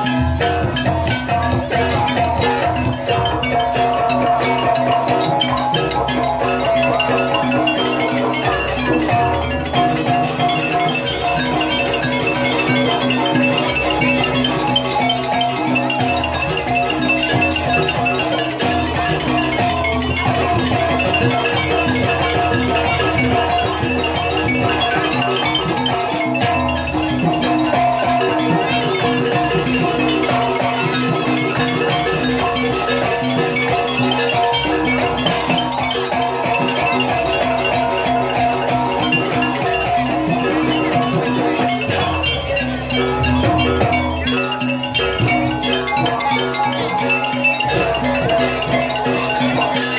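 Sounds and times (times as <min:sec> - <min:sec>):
metal mallet percussion ringing: 0:00.0 - 0:49.9.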